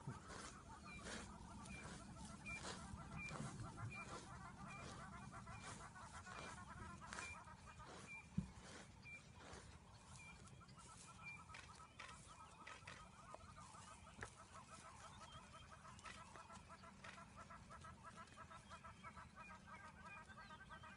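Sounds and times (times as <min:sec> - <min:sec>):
bird clucking calls: 0:00.0 - 0:20.9.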